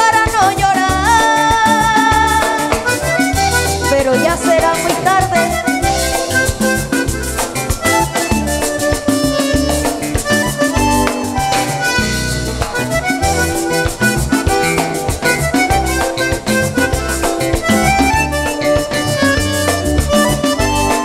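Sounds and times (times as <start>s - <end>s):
button accordion melody: 0.0s - 21.0s
congas: 0.0s - 21.0s
guitars: 0.0s - 21.0s.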